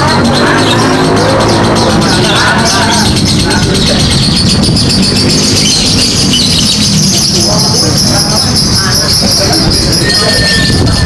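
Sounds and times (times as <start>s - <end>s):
crowd noise rumble: 0.0s - 11.0s
lovebird chattering trill: 0.0s - 11.0s.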